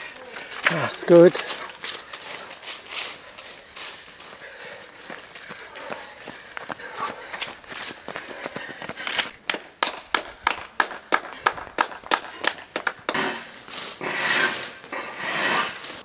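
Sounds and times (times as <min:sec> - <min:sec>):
running footsteps on asphalt: 0:00.0 - 0:13.8.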